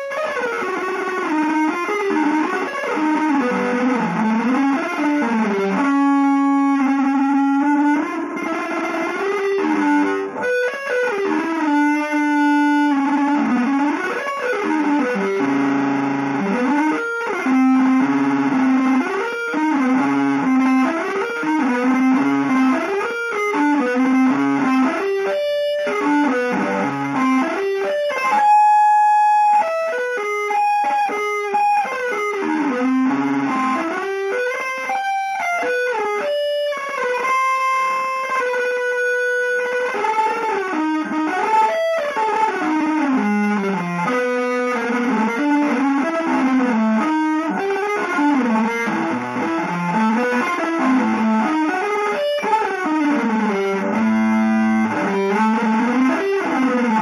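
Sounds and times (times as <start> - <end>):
electric guitar melody: 0.0 - 57.0.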